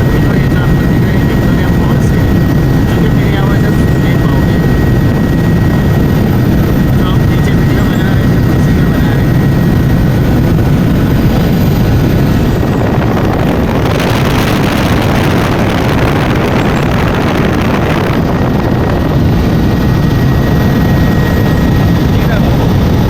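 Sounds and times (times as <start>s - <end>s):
helicopter engine and rotor: 0.0s - 23.0s.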